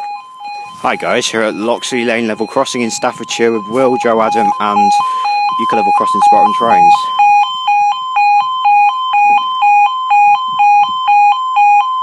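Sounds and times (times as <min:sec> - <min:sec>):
two-tone electronic crossing alarm: 0:00.0 - 0:12.0.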